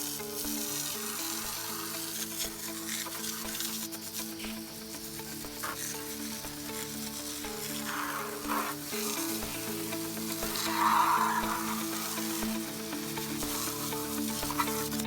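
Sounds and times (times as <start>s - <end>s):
background music: 0.0s - 15.0s
hose spraying water: 0.0s - 15.0s.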